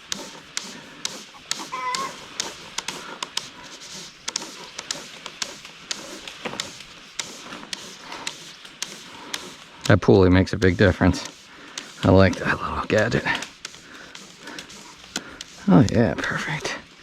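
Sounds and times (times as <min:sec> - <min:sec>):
climbing gear clicking and tapping: 0:00.0 - 0:17.0.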